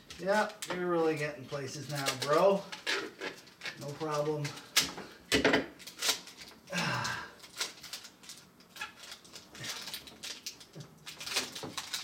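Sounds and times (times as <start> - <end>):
cords and plastic rustling: 0.0 - 12.0.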